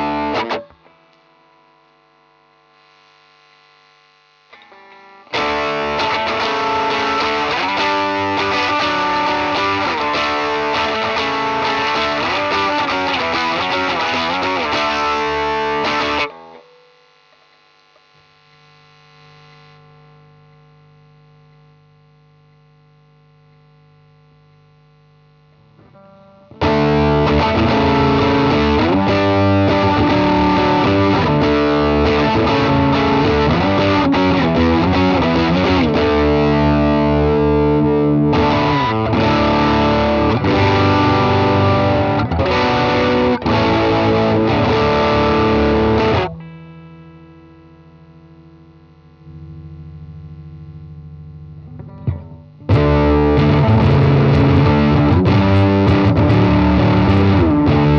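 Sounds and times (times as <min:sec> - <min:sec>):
amplifier hum: 0:00.0 - 0:57.9
distorted electric guitar: 0:00.0 - 0:57.9.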